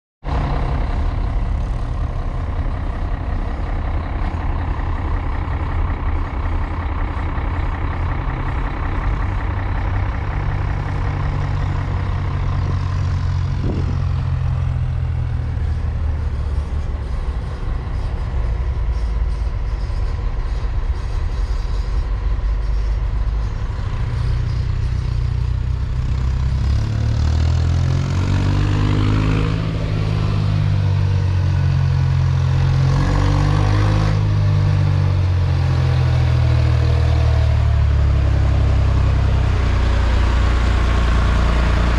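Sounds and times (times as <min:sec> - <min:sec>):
diesel engine running: 0:00.2 - 0:41.9.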